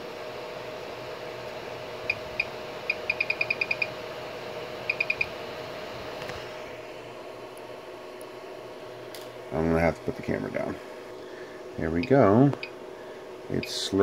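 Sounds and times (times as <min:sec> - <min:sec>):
cooling fan hum: 0:00.0 - 0:14.0.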